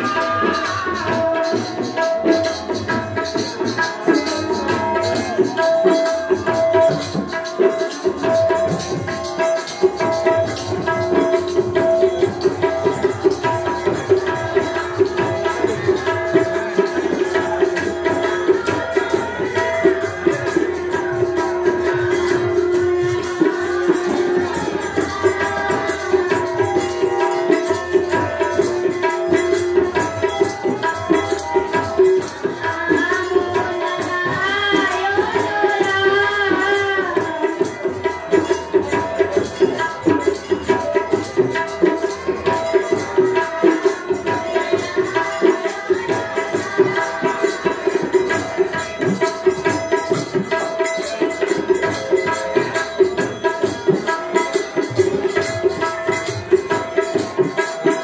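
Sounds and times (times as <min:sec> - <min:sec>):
hand drum fast rhythm: 0:00.0 - 0:58.0.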